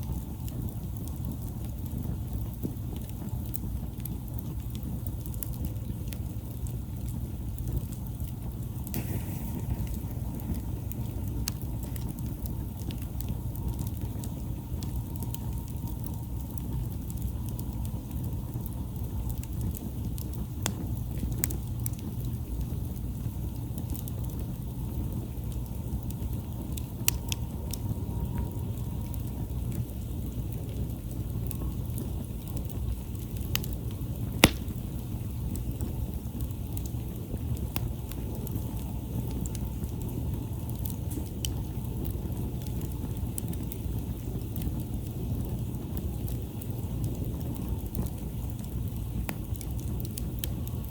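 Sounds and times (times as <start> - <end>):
campfire crackling and popping: 0.0 - 50.9
low fire rumble: 0.0 - 50.9.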